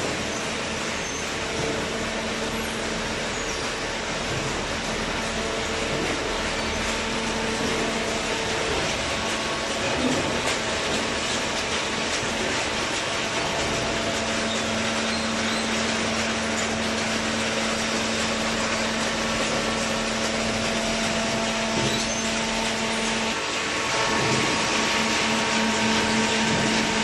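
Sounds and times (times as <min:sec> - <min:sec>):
baler mechanical hum: 0:00.0 - 0:27.0.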